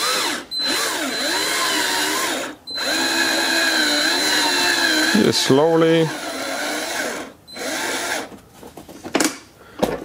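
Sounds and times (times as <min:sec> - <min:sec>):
cordless drill boring plastic: 0:00.0 - 0:08.3.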